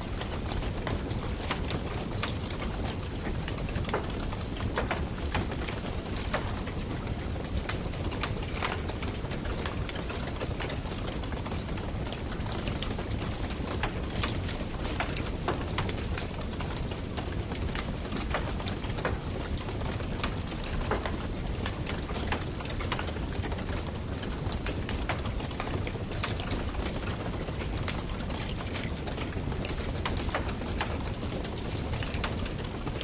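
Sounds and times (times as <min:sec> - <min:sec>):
burning wood crackling: 0:00.0 - 0:33.0.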